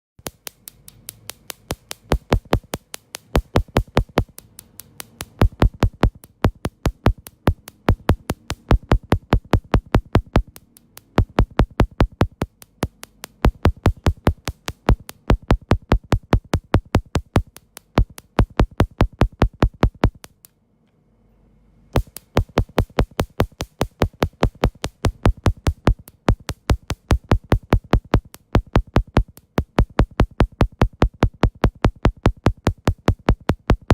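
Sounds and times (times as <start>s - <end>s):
electronic music with drum-machine beat: 1.6s - 4.4s, 5.0s - 20.3s, 22.0s - 33.9s.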